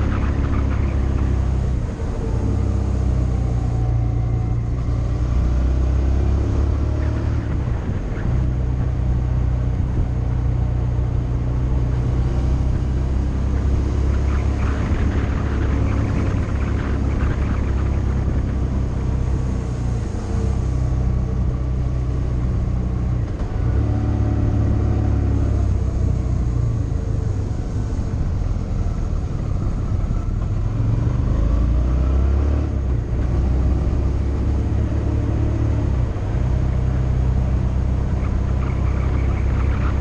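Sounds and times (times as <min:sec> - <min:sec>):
road noise: 0:00.0 - 0:40.0.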